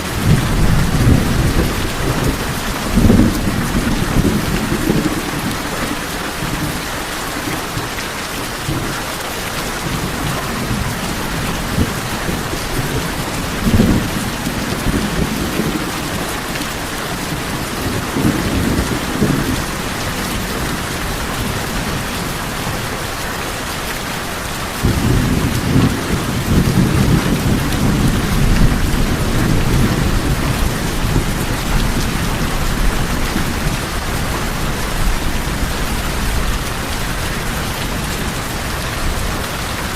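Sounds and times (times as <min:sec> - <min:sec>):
thunder rumbling: 0:00.0 - 0:06.9, 0:09.7 - 0:23.1, 0:24.6 - 0:39.9
rain on a tin roof: 0:00.0 - 0:39.9.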